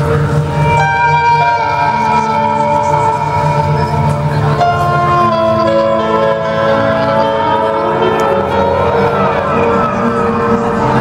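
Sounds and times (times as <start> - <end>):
live instrumental concert music: 0.0 - 11.0.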